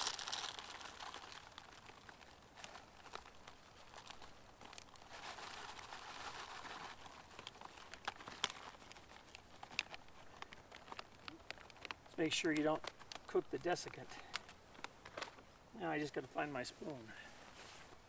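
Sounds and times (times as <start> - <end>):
foil pouch crinkling: 0.0 - 15.4
dry rustling: 0.0 - 15.5.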